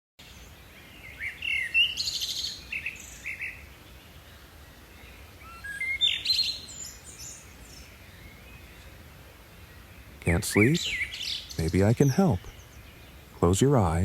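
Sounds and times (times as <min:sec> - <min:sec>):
faint low background noise: 0:00.2 - 0:14.0
songbird chirping: 0:00.2 - 0:14.0.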